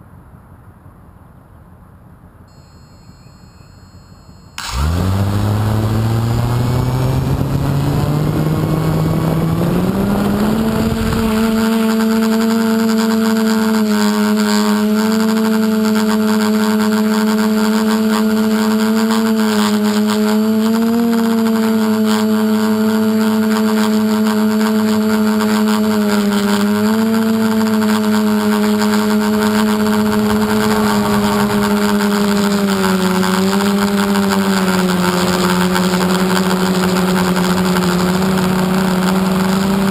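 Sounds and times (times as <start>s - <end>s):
drone motors and propellers: 2.5s - 39.9s.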